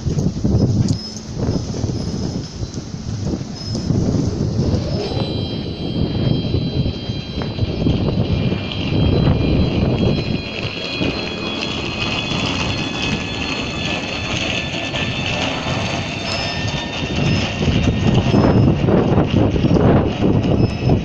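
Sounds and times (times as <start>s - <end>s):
high wheel squeal: 0.0s - 21.0s
train rumbling on track: 0.0s - 21.0s.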